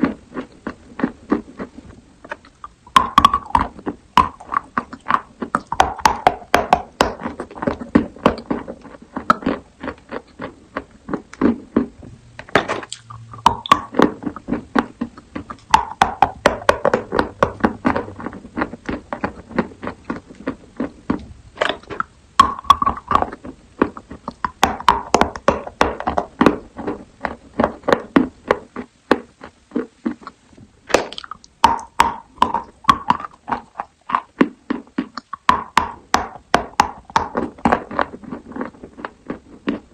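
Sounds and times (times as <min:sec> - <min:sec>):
chewing and crunching: 0:00.0 - 0:12.0, 0:12.7 - 0:30.4, 0:31.0 - 0:39.9.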